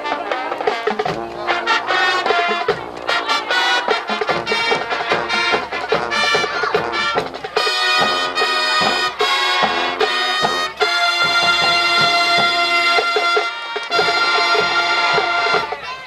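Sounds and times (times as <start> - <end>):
marching band brass playing chords: 0.0 - 16.0.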